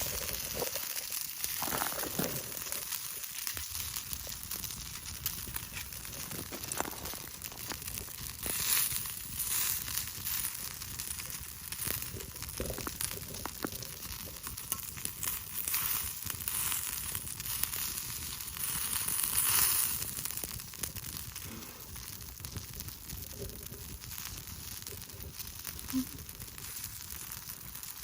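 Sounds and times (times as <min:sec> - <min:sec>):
meat sizzling on hot iron plate: 0:00.0 - 0:28.0
small crackles and pops: 0:00.0 - 0:28.0.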